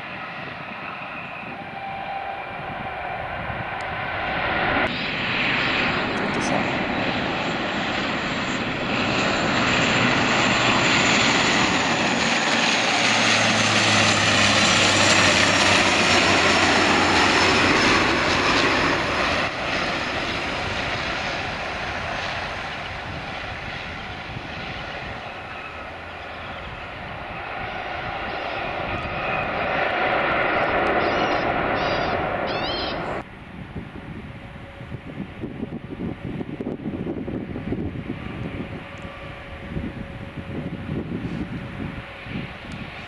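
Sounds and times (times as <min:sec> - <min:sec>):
turboprop airliner engines: 0:00.0 - 0:43.0.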